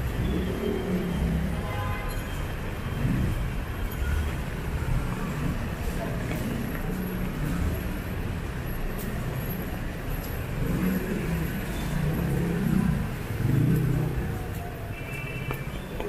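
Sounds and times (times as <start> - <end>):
vehicles passing: 0.0 - 16.0.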